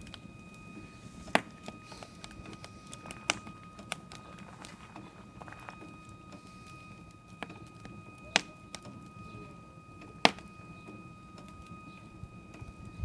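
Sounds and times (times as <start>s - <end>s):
faint high whine: 0.0s - 13.0s
fire popping: 0.0s - 13.0s
wood fire crackling: 0.0s - 13.0s.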